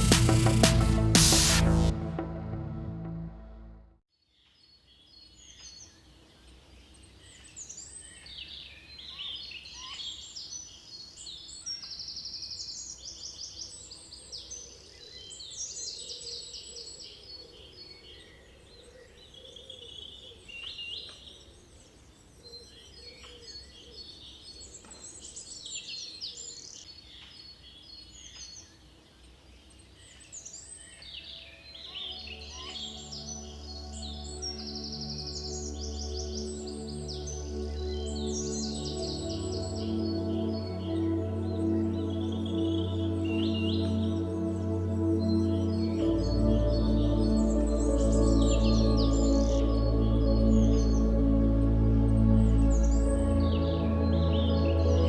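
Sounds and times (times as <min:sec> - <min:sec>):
small birds chirping and trilling: 0:04.2 - 0:55.0.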